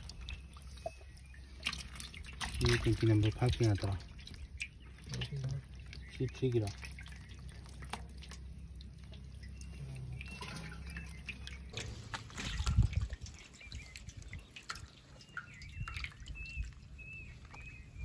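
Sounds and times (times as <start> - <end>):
water dripping and lapping: 0.0 - 18.0.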